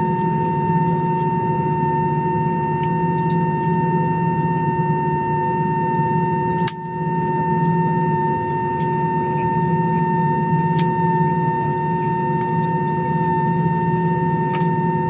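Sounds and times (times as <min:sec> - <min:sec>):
aircraft turbine whine: 0:00.0 - 0:15.0.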